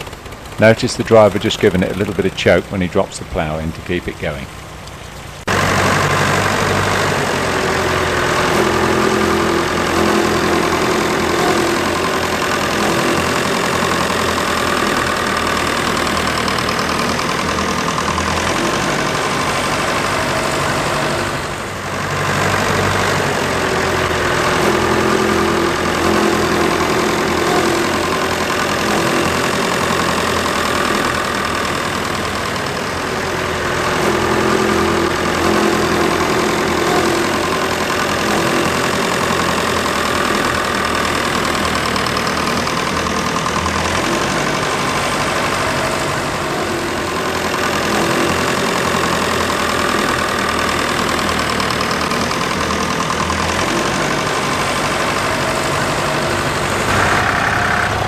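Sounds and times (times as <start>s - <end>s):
tractor engine under load: 0.0s - 58.0s.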